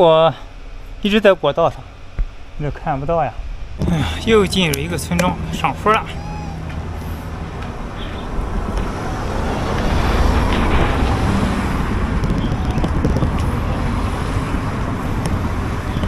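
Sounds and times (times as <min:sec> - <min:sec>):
bicycle road noise: 0:00.0 - 0:16.0
wind buffeting microphone: 0:02.0 - 0:16.0.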